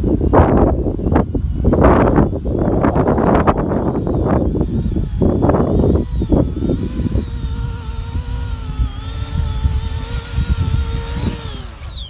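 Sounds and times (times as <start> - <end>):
electric motors and propellers whining: 0.0 - 12.0
wind buffeting microphone: 0.0 - 12.0.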